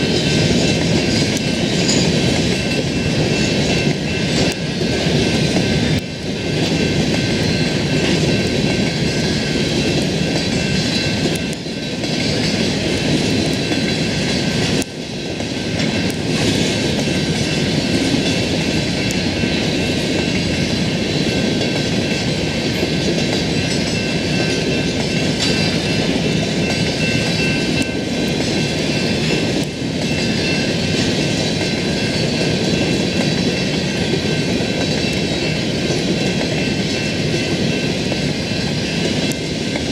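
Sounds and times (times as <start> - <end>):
steel wheels clattering on rails: 0.0 - 39.9.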